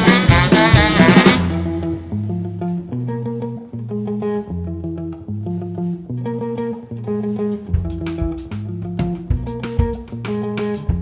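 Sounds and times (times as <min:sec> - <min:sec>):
electric guitar riff: 0:00.0 - 0:11.0.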